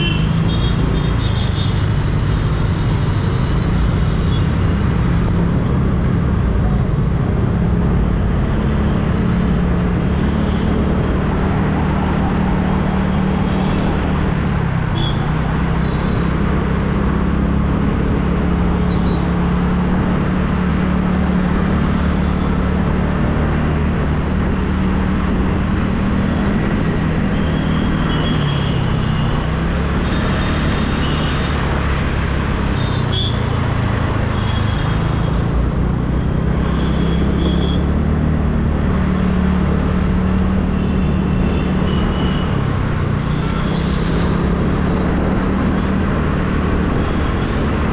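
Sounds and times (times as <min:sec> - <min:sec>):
wind and road noise: 0:00.0 - 0:47.9.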